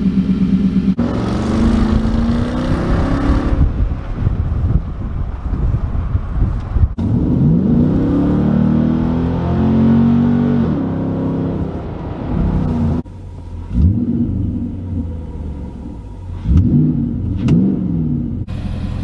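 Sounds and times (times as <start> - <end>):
truck engine revving: 0.0 - 4.4, 7.0 - 13.1, 13.7 - 19.0.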